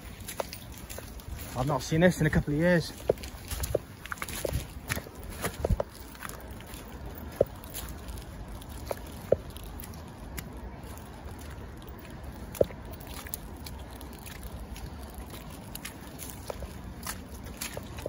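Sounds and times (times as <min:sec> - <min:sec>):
footsteps crunching on seaweed and sand: 0:00.0 - 0:18.0.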